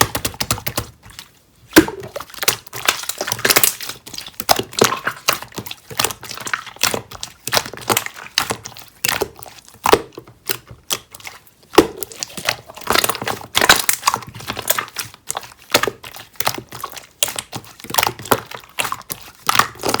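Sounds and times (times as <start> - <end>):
crinkling and crackling: 0.0 - 20.0.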